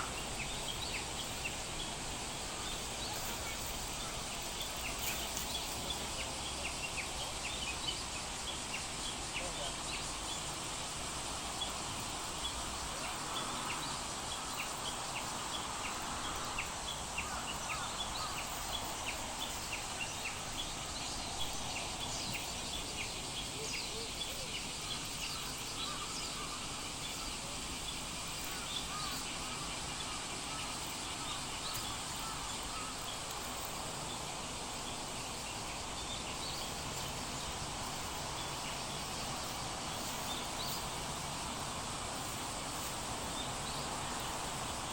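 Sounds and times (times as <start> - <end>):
small birds chirping: 0.0 - 44.9
steady outdoor hiss: 0.0 - 44.9.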